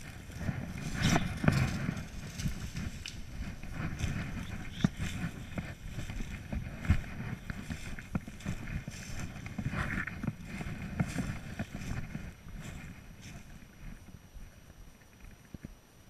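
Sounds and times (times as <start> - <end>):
twigs cracking: 0.0 - 14.0
footsteps on forest floor: 0.0 - 14.5
wind rumble on microphone: 0.0 - 15.9.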